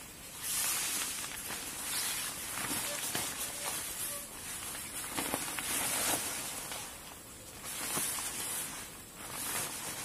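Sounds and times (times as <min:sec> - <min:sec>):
tarp rustling and crackling: 0:00.0 - 0:10.0.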